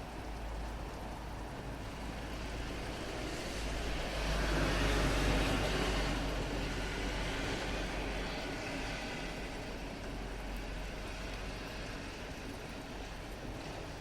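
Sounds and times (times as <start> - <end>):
falling rain: 0.0 - 14.0
car tyres hissing on wet road: 0.4 - 14.0.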